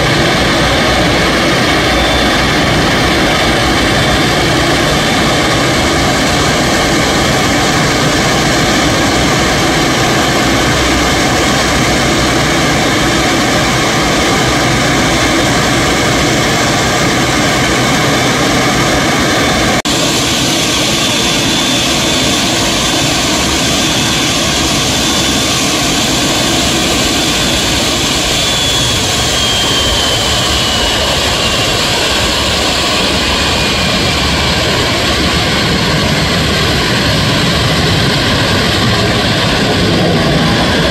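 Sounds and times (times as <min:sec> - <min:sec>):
jet engines whining and rumbling: 0:00.0 - 0:40.9.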